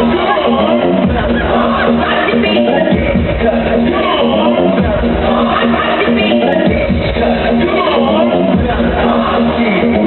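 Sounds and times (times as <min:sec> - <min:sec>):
dance music with heavy bass: 0:00.0 - 0:10.0.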